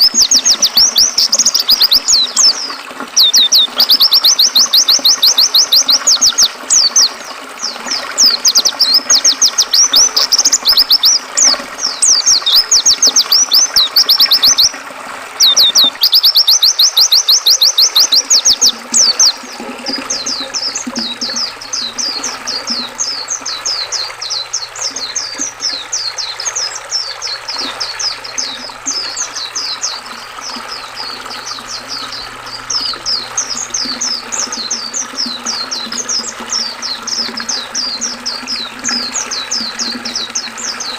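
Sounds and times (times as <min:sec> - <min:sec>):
bird chirping: 0:00.0 - 0:14.8, 0:15.4 - 0:40.9.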